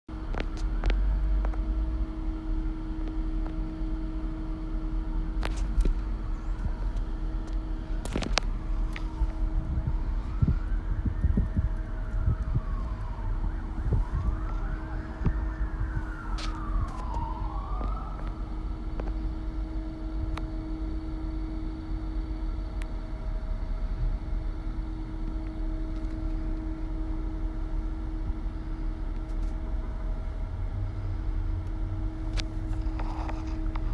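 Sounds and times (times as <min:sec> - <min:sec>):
vehicle road noise hum: 0:00.1 - 0:33.9
emergency siren wailing: 0:02.0 - 0:33.9.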